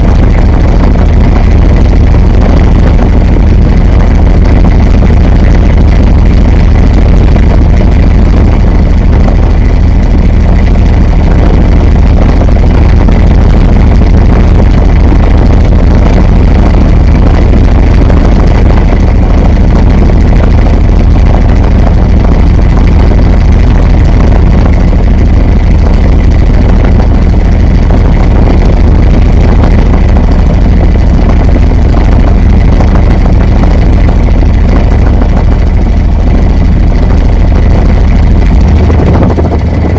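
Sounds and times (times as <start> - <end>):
washing machine deep rumble: 0.0 - 39.9.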